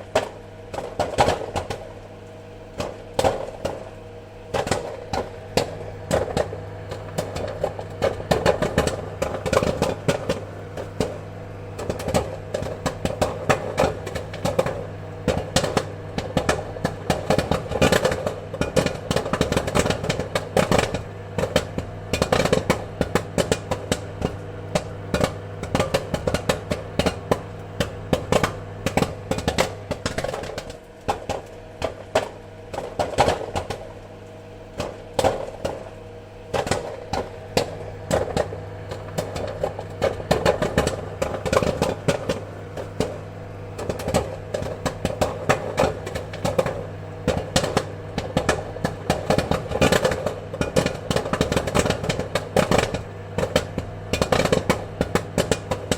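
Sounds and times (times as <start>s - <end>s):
popcorn popping: 0.0s - 55.9s
steady low hum: 0.0s - 55.9s.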